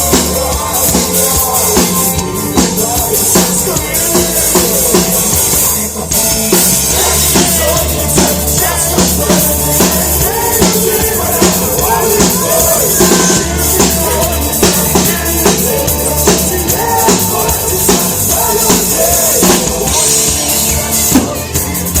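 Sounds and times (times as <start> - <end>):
bass line: 0.0 - 22.0
drum kit beat: 0.0 - 22.0.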